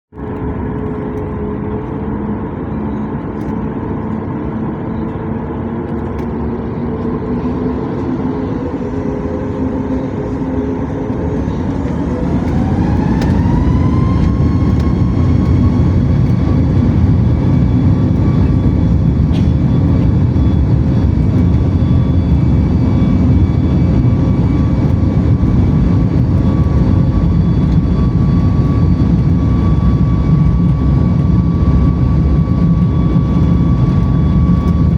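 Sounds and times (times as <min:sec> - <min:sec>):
jet engines spooling up: 0:00.2 - 0:34.9.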